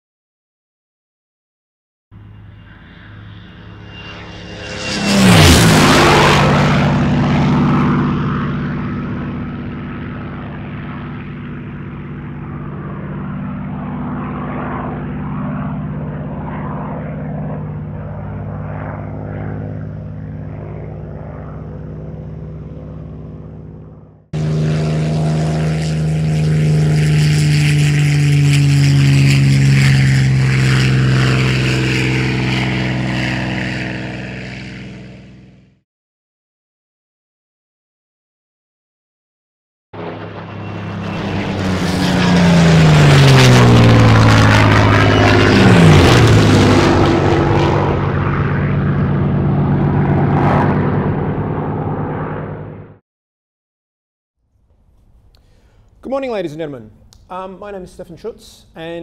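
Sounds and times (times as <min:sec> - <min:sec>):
aircraft engine low drone: 0:02.1 - 0:35.8, 0:40.0 - 0:53.0, 0:54.5 - 0:59.0
propeller plane engine passing: 0:02.2 - 0:35.8, 0:40.0 - 0:53.0, 0:54.5 - 0:59.0.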